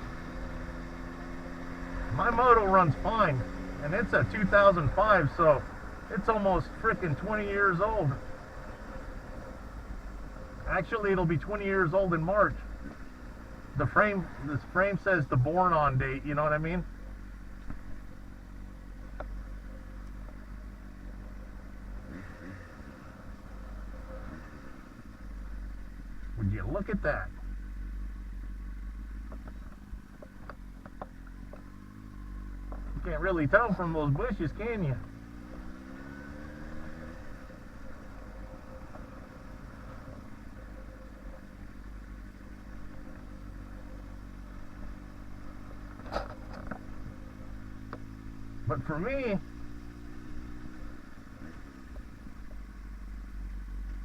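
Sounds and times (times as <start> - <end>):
motorcycle engine humming: 0.0 - 54.0.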